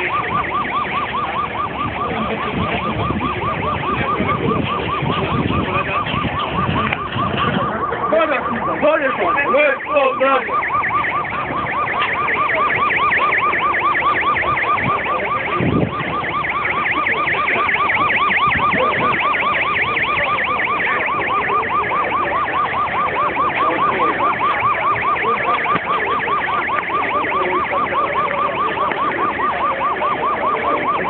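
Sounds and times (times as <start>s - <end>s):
police siren yelping: 0.0s - 31.0s.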